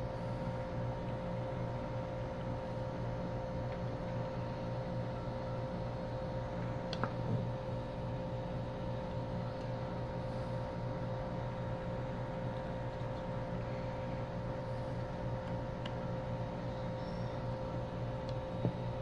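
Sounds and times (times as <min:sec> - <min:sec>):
electric bench machine whirring hum: 0:00.0 - 0:19.0.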